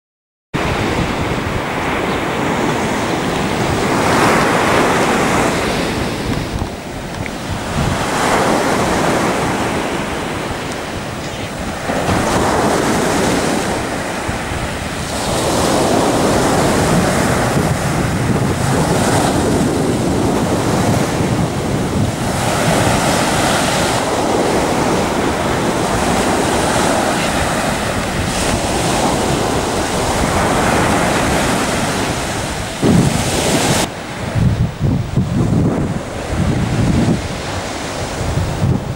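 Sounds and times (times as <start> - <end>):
surf breaking on beach: 0.6 - 38.9
wind buffeting microphone: 0.6 - 38.9.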